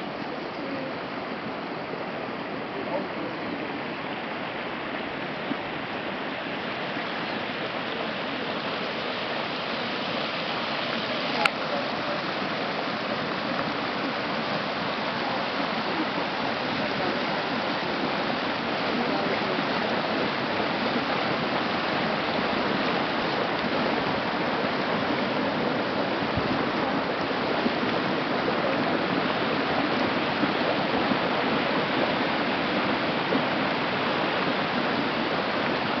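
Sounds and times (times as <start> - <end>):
water rushing over rocks: 0.0 - 36.0.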